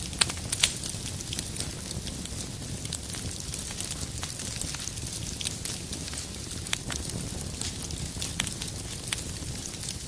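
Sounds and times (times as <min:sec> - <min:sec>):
firewood popping: 0:00.0 - 0:10.0
wood fire crackling: 0:00.0 - 0:10.0.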